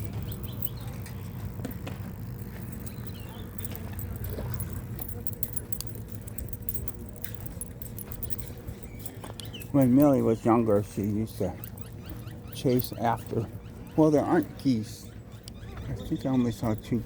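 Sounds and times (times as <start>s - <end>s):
low rumble of outdoor noise: 0.0s - 17.0s
metallic clicking and jingling: 0.0s - 17.0s.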